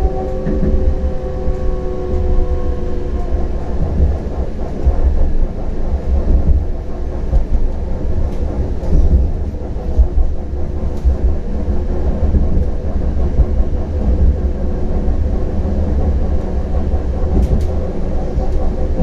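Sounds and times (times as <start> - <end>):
steady tonal hum: 0.0 - 19.0
tram rumble: 0.0 - 19.0.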